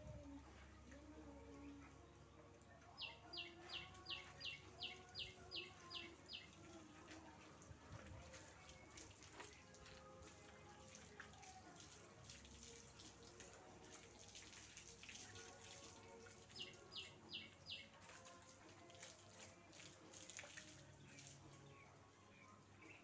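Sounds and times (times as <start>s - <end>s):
hose water splashing: 3.3s - 21.8s.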